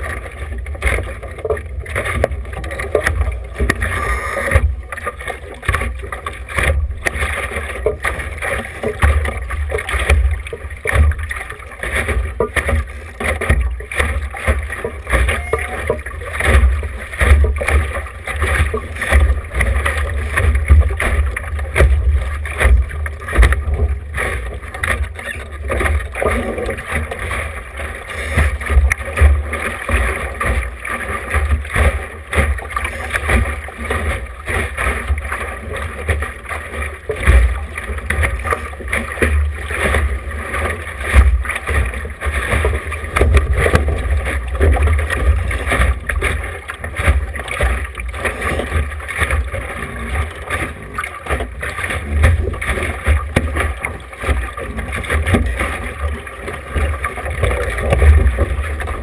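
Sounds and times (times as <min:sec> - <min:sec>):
rush of wind and water: 0:00.0 - 0:59.0.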